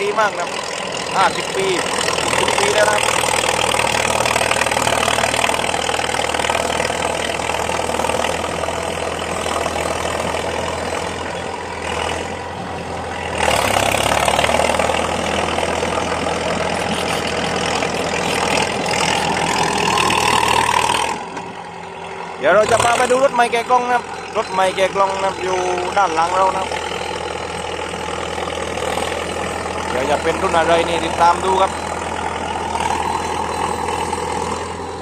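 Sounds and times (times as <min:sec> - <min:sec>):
diesel engine through open exhaust: 0:00.0 - 0:35.0.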